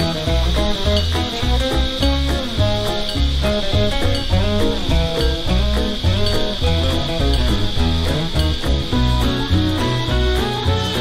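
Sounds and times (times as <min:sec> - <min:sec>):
music with pulsing bass beat: 0:00.0 - 0:11.0.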